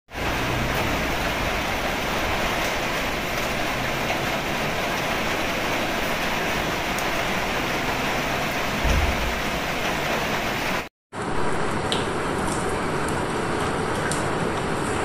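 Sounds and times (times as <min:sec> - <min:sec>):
heavy rain: 0:00.1 - 0:15.0.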